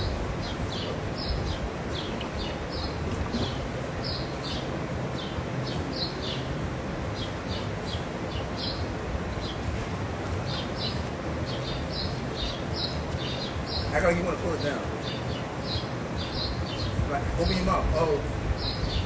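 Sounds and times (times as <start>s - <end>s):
hot tub jets churning: 0.0s - 19.0s
small birds chirping: 0.0s - 19.0s.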